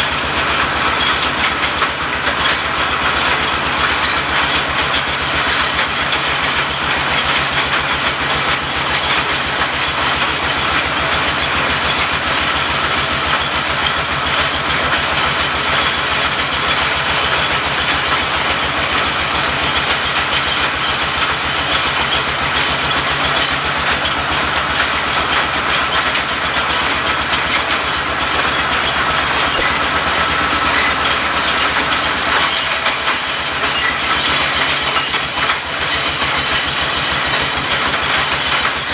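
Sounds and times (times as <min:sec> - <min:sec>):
drilling machine running: 0:00.0 - 0:38.9.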